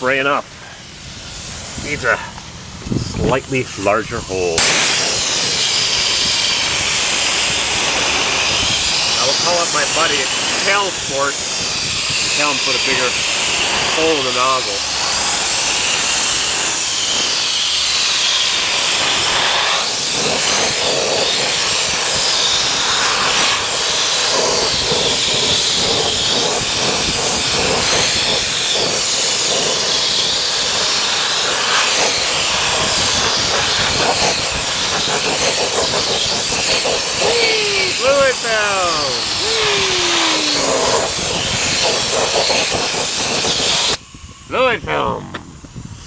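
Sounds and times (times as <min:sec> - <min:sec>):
compressed air hissing: 0:00.5 - 0:44.4.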